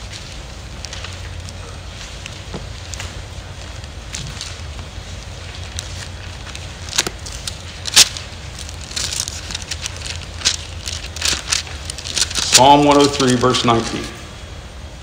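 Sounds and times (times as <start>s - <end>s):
pages rustling and flipping: 0.0s - 14.1s
crackles: 0.0s - 14.2s
low room rumble: 0.0s - 15.0s.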